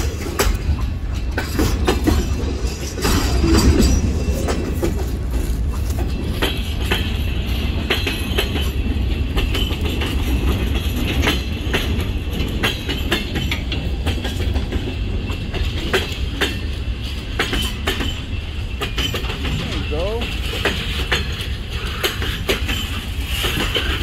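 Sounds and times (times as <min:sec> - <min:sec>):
freight train rumbling past: 0:00.0 - 0:24.0
wheels clacking over rail joints: 0:00.0 - 0:24.0.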